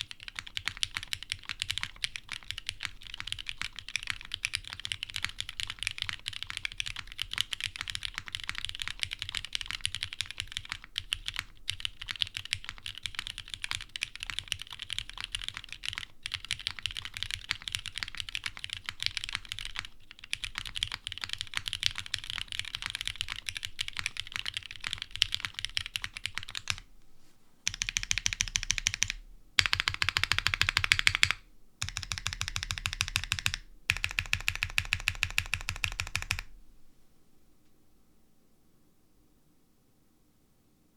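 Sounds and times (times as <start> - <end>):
mechanical keyboard typing: 0.0 - 26.8, 27.7 - 36.5.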